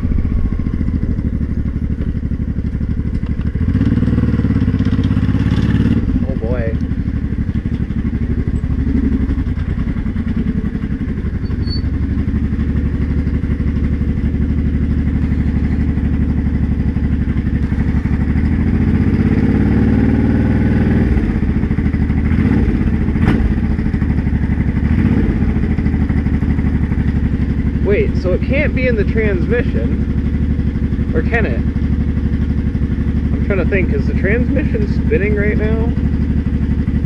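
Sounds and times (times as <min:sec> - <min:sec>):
engine rattle: 0:00.0 - 0:37.0
motorcycle engine revving: 0:00.0 - 0:37.0.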